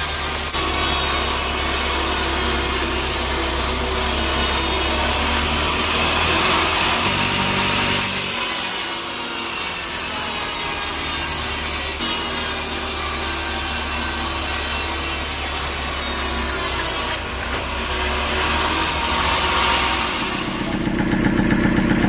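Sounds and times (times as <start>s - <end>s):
saw blade cutting wood: 0.0s - 22.0s
saw motor hum: 0.0s - 22.0s.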